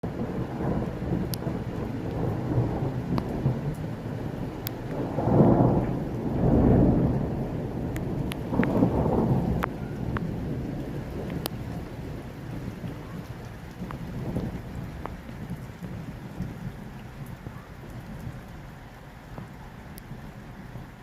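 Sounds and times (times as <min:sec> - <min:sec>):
raindrops ticking nearby: 0:00.0 - 0:21.0
steady rain: 0:00.0 - 0:21.0
thunder rumbling: 0:00.0 - 0:21.0.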